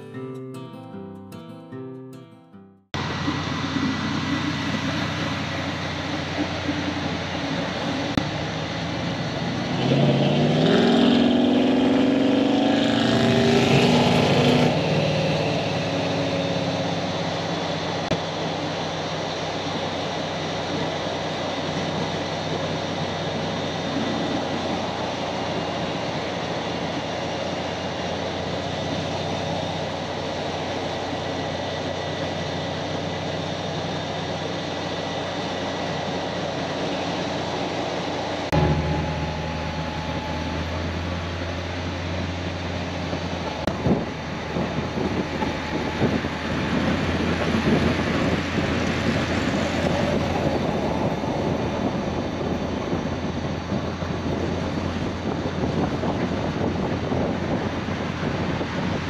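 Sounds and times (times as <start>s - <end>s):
road noise: 0.0s - 59.0s
car engine drone: 3.0s - 59.0s.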